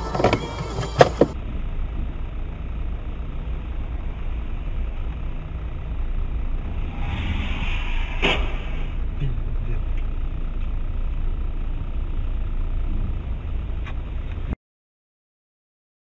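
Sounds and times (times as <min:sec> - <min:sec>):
car engine droning: 0:00.0 - 0:14.6
road noise: 0:00.0 - 0:14.6.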